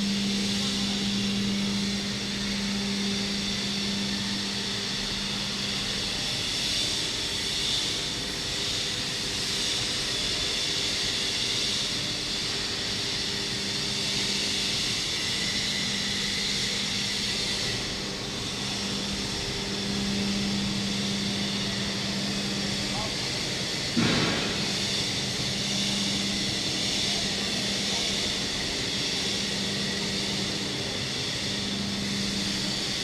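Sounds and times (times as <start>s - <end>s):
vacuum fan rushing: 0.0s - 7.8s, 12.3s - 33.0s.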